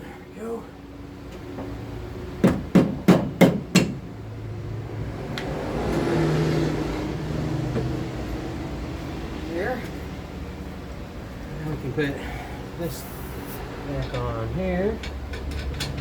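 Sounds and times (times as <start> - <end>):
steady noise with low hum: 0.0 - 6.0, 6.6 - 16.0.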